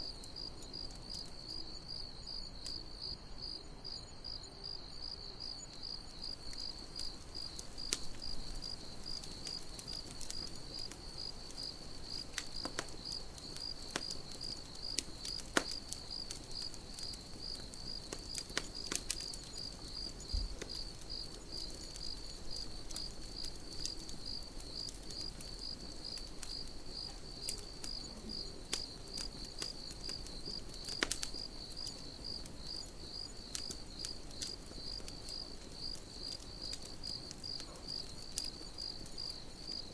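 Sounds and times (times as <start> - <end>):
campfire crackling and popping: 0.0 - 3.6, 5.0 - 39.9
crickets chirping: 0.0 - 39.9.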